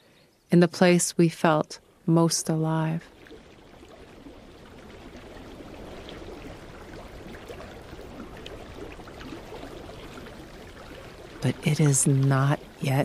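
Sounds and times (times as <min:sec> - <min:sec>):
creek running over rocks: 0:00.8 - 0:13.0.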